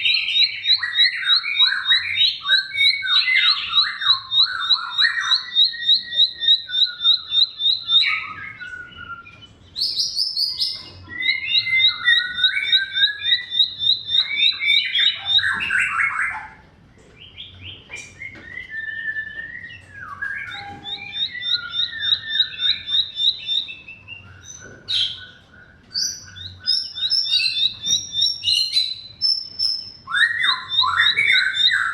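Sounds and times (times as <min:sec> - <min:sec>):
bird singing varied song: 0:00.0 - 0:31.9.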